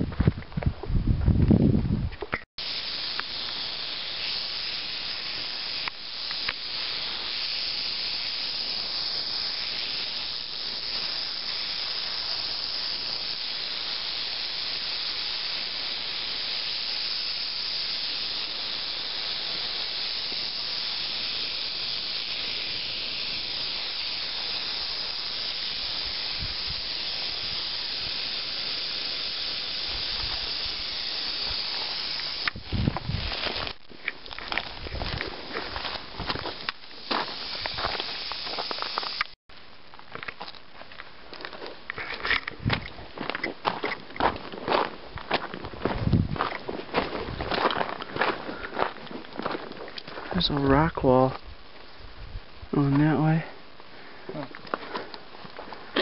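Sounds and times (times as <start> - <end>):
rattlesnake rattling: 2.6 - 39.4, 40.1 - 56.0.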